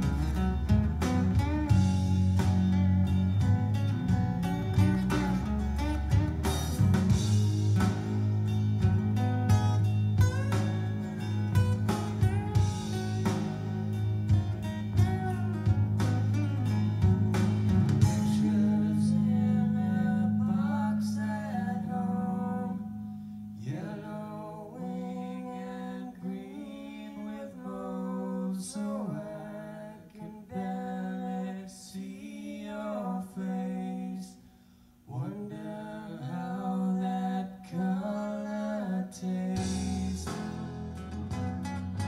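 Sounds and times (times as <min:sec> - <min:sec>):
acoustic guitar song with singing: 0:00.0 - 0:42.0.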